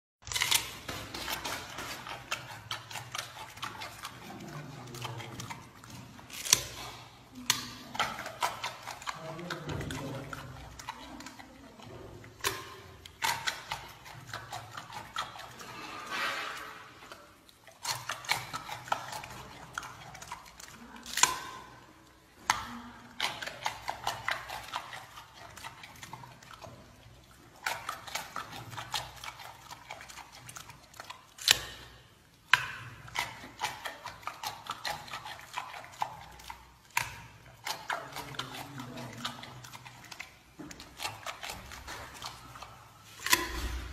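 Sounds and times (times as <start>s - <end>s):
panda crunching a carrot: 0.2s - 43.9s.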